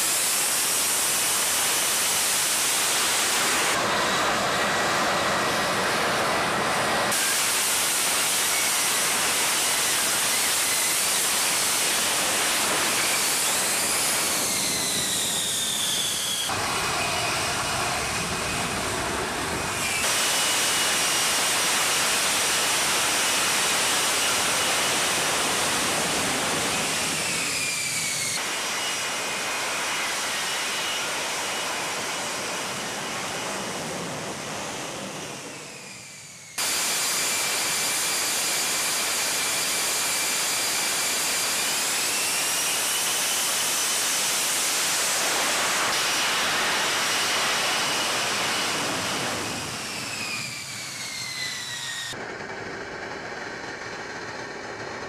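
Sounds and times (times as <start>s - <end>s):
jet engine whine passing: 0.0s - 55.0s.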